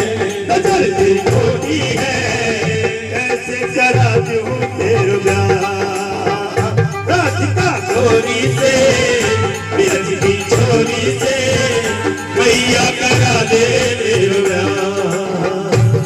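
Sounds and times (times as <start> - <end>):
devotional singing over loudspeakers: 0.0 - 16.0.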